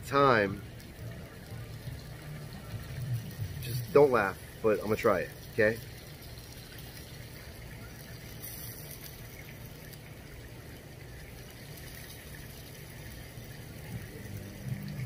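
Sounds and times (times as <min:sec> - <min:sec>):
low background hum and hiss: 0:00.0 - 0:15.0.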